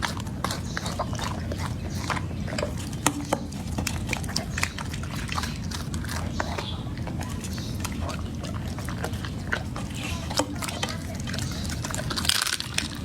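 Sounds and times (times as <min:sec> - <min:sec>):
dog crunching bones: 0:00.0 - 0:13.0.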